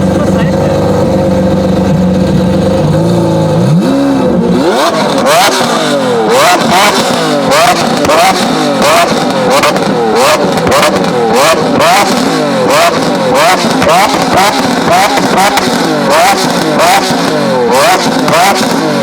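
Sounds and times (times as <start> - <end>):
sharp exhaust cracks: 0.0 - 19.0
sports car engine revving: 0.0 - 19.0.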